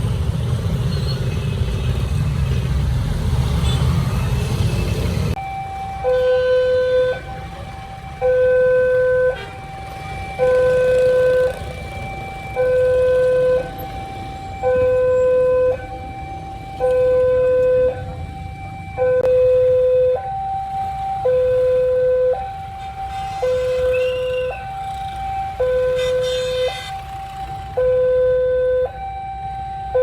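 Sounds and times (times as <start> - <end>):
road traffic rumble: 0.0 - 30.0
two-tone crossing alarm: 5.3 - 30.0.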